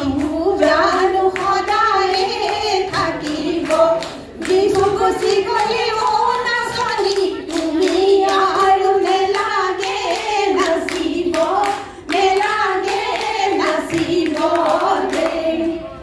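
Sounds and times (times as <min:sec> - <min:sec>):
women singing folk song: 0:00.0 - 0:15.9.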